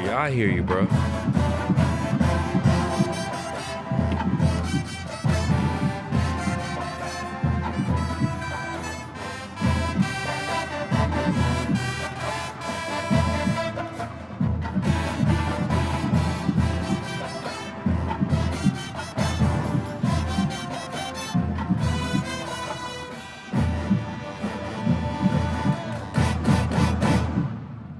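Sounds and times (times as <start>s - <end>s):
trombones holding long notes: 0.0s - 27.6s
marching band playing ballad: 0.0s - 27.9s.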